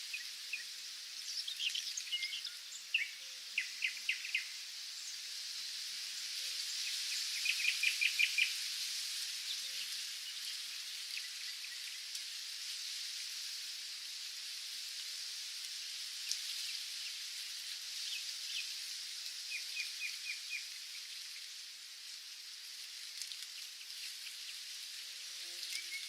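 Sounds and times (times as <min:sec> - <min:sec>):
small birds chirping: 0:00.0 - 0:12.2, 0:16.2 - 0:26.0
steady high-pitched hiss: 0:00.0 - 0:26.0.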